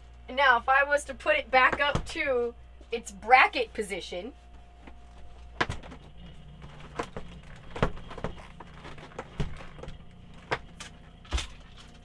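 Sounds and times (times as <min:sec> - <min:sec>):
fridge compressor humming: 0:00.0 - 0:12.0.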